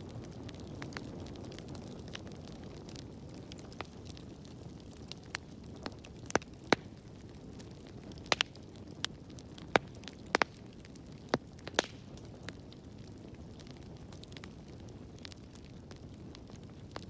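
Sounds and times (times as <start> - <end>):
low rumble of burning: 0.0 - 17.0
wood fire pops and snaps: 0.0 - 17.0.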